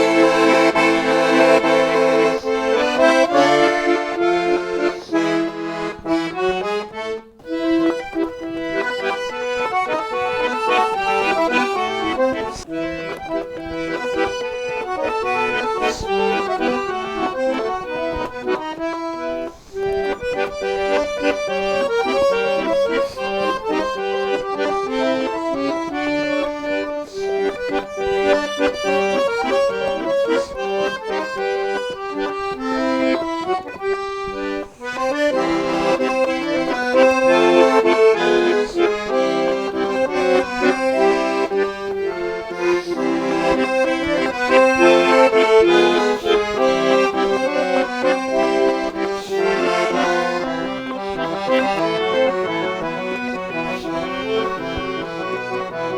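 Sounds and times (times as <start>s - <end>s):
accordion tune: 0.0s - 55.9s.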